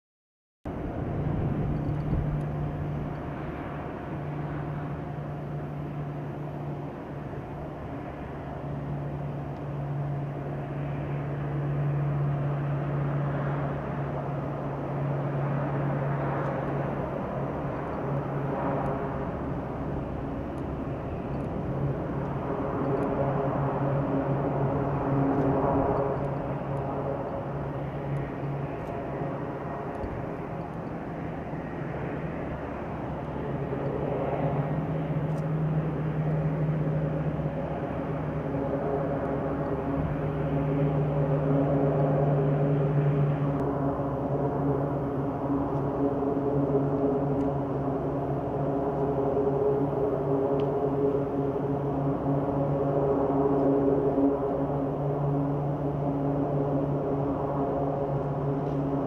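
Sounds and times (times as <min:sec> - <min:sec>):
turboprop engines droning: 0:00.7 - 0:59.0.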